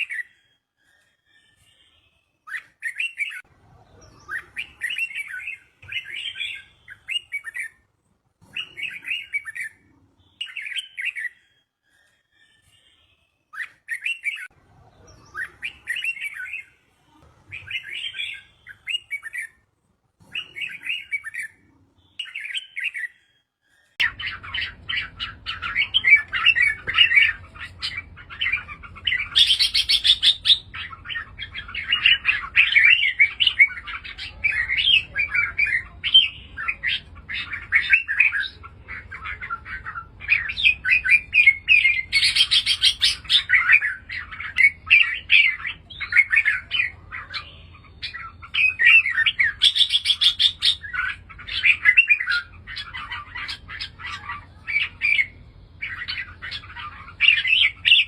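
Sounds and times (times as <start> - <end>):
birds chirping and warbling: 0.0 - 58.0.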